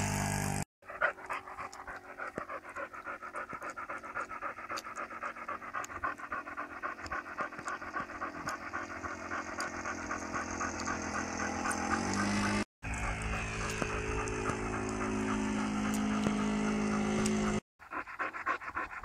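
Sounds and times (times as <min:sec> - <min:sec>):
model plane engine humming: 0:00.0 - 0:17.6
dog panting: 0:00.8 - 0:19.0.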